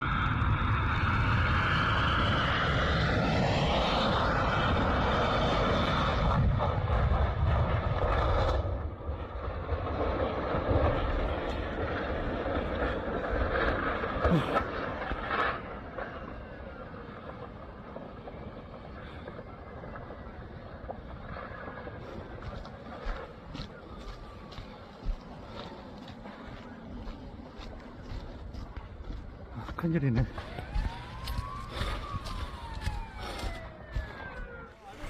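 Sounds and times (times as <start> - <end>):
jet engines whining: 0.0 - 7.9, 10.2 - 35.0
low rumbling: 0.0 - 35.0.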